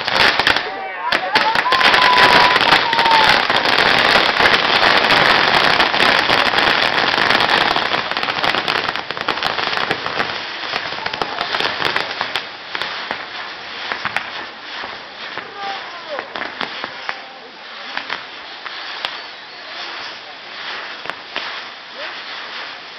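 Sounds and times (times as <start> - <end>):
fireworks crackling and hissing: 0.0 - 22.9
fireworks sharp pops: 0.0 - 22.9.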